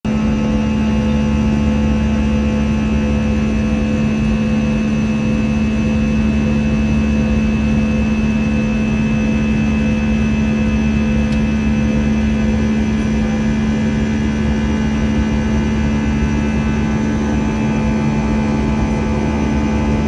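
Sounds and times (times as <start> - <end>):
jet engines droning: 0.1 - 20.0.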